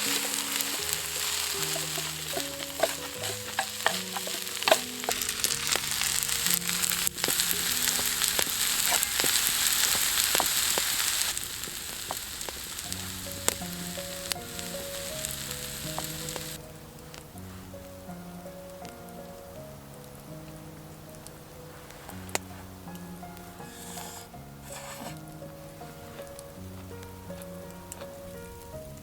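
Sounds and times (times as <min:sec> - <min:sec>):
food sizzling in a frying pan: 0:00.0 - 0:19.0, 0:21.6 - 0:29.0
soft background music: 0:00.0 - 0:29.0.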